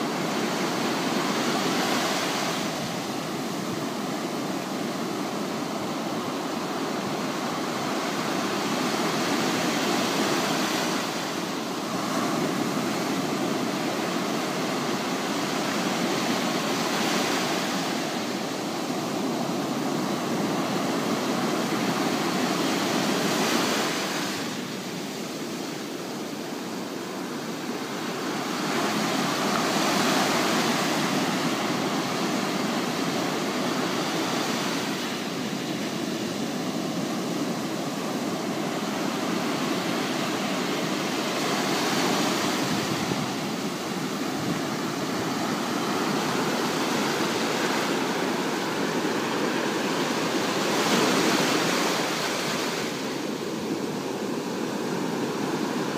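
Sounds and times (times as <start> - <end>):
waves breaking on sand: 0.0 - 55.9.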